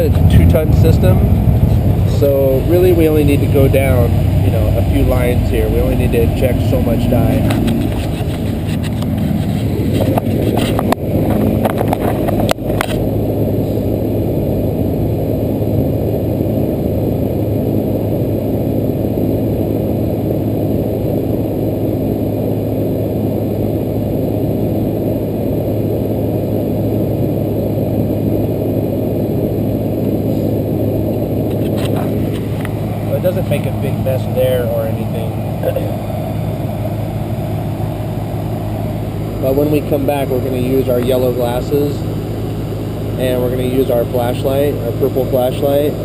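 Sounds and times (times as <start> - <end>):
air conditioner unit humming: 0.0 - 46.0.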